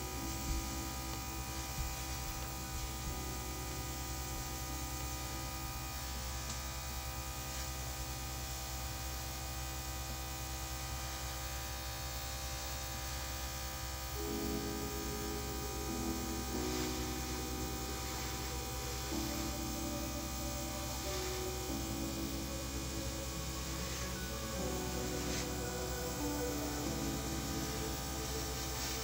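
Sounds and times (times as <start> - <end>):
airbrush compressor humming: 0.0 - 29.0.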